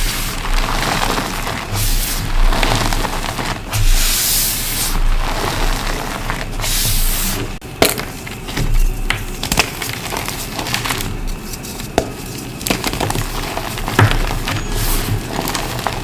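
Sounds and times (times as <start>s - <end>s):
chalk crunching and crumbling: 0.0s - 16.0s.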